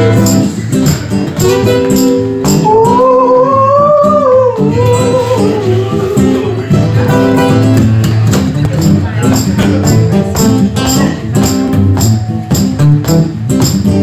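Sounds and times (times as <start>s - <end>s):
blues band playing: 0.0s - 14.0s
sliding lead melody: 0.0s - 14.0s.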